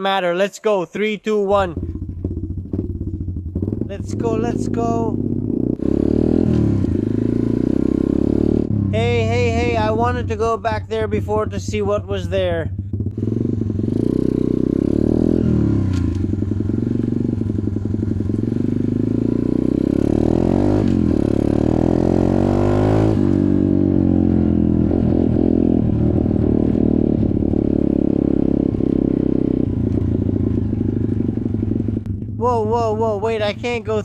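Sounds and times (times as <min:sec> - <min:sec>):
off-road motorcycle engine revving: 0:01.5 - 0:34.0.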